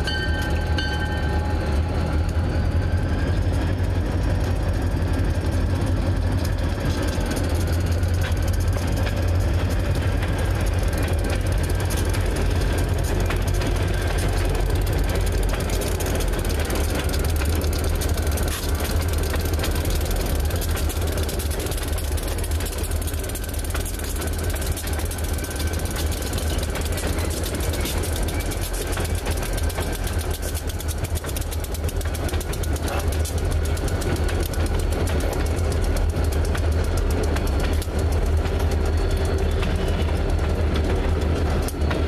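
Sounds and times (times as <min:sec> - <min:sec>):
locomotive engines rumbling: 0:00.0 - 0:42.0
wheels clicking over rails: 0:00.0 - 0:42.0.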